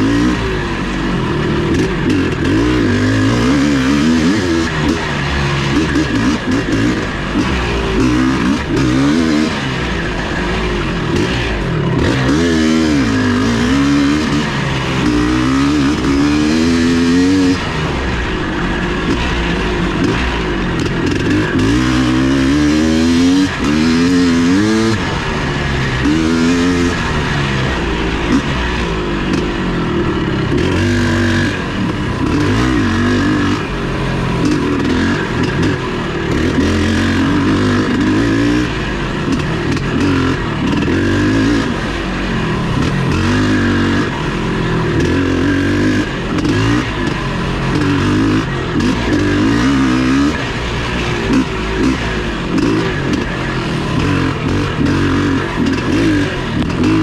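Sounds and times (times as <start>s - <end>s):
motorcycle engine revving: 0.0s - 57.0s
steady rush of noise: 0.0s - 57.0s.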